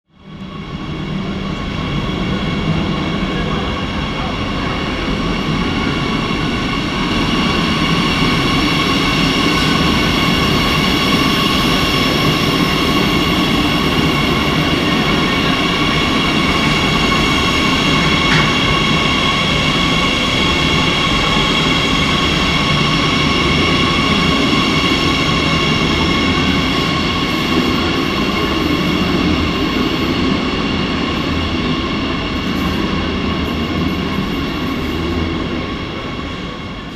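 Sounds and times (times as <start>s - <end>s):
train rumbling over rails: 0.1s - 36.9s.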